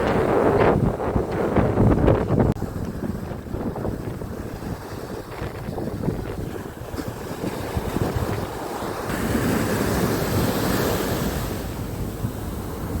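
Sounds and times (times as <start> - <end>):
sea waves breaking on beach: 0.0 - 13.0
wind buffeting microphone: 0.0 - 13.0.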